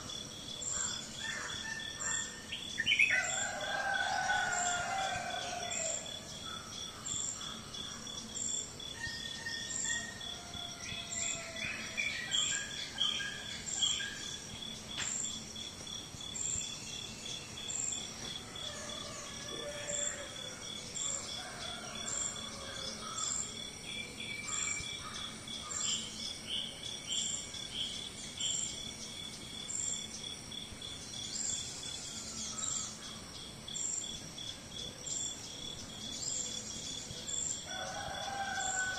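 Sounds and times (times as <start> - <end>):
insect high-pitched pulsing trill: 0.0 - 38.9.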